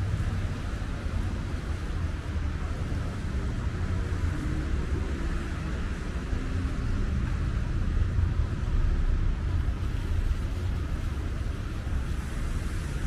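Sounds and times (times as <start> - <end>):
rain on pavement: 0.0 - 13.0
traffic rumble: 0.0 - 13.0.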